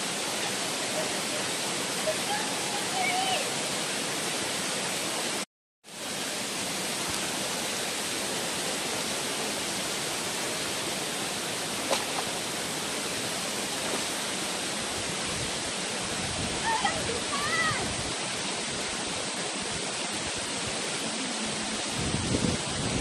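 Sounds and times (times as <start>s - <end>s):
waterfall rushing into pool: 0.0s - 23.0s.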